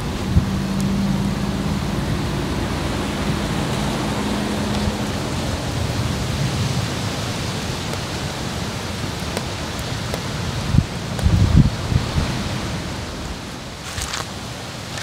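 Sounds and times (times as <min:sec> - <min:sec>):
loud steady rushing noise: 0:00.0 - 0:15.0.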